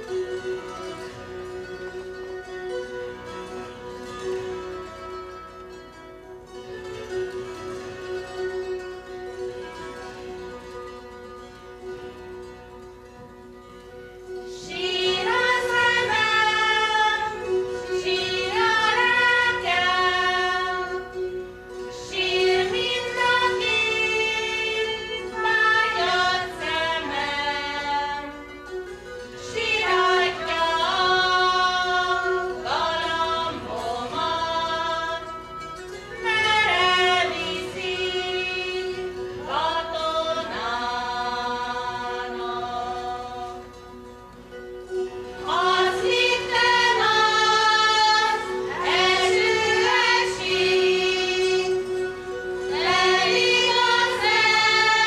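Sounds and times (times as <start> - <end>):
zithers droning: 0.0 - 55.0
women and girls singing folk song: 6.8 - 55.0.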